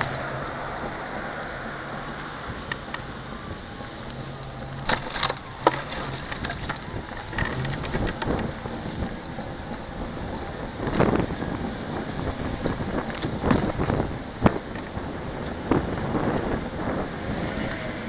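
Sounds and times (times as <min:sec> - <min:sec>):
high motor whine: 0:00.0 - 0:18.0
wind on microphone: 0:00.0 - 0:18.0.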